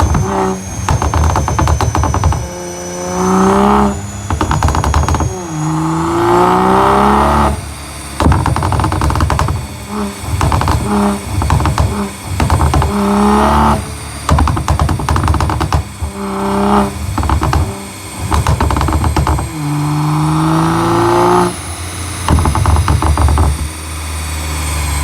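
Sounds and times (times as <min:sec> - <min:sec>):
exhaust pops and crackles: 0:00.0 - 0:24.1
car engine idling: 0:00.0 - 0:25.0
car engine revving: 0:00.0 - 0:25.0.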